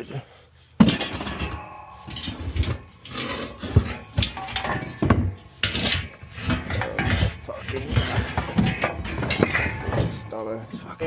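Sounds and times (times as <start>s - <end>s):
metal tools clanking and scraping: 0.8s - 11.0s.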